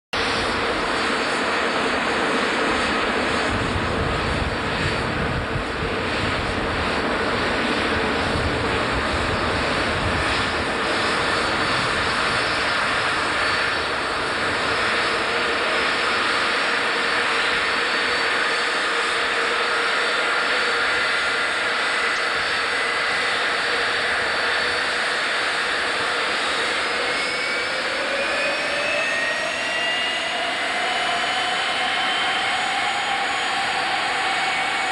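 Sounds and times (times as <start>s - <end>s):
jet engine whine: 0.1s - 34.9s.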